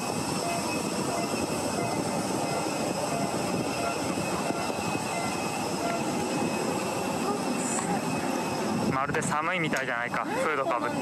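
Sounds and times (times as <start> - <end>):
jet engine rushing and whining: 0.0 - 11.0.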